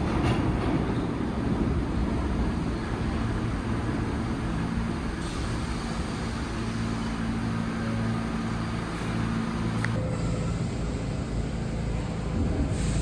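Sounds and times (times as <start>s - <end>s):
subway train equipment humming: 0.0s - 13.0s.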